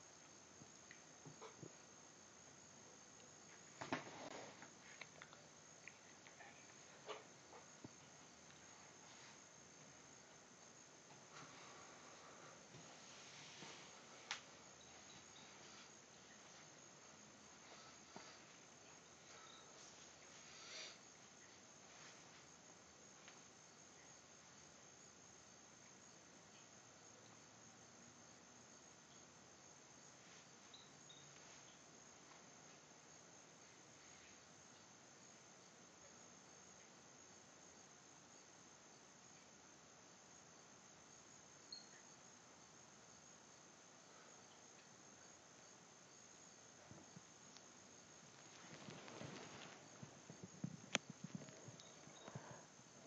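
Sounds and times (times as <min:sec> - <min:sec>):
faint background hiss: 0:00.0 - 0:53.0.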